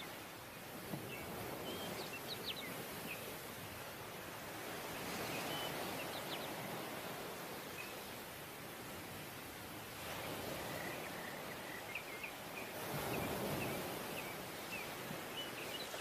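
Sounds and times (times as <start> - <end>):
surf washing up beach: 0.0 - 16.0.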